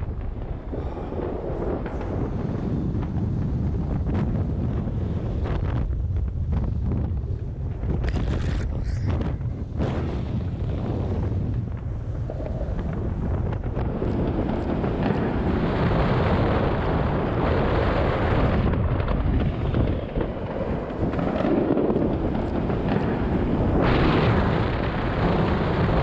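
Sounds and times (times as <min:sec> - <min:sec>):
distant fireworks bangs and crackles: 0:00.0 - 0:26.0
wind buffeting microphone: 0:00.0 - 0:26.0.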